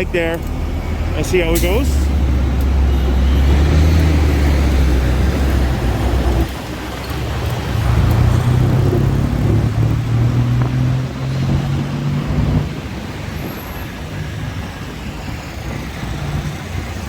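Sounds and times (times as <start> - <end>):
road traffic engines: 0.0 - 17.0.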